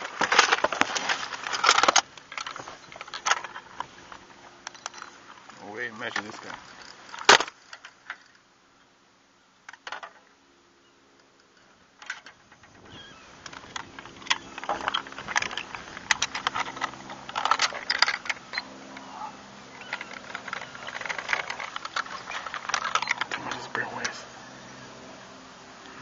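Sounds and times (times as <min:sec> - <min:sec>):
gear clinking in metal boat: 0:00.0 - 0:08.4, 0:11.2 - 0:23.8.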